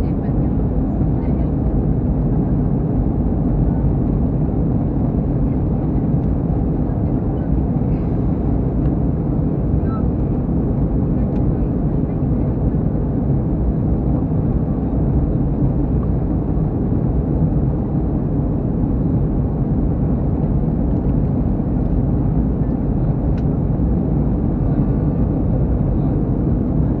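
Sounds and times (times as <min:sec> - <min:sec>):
jet airliner cabin roar: 0:00.0 - 0:27.0.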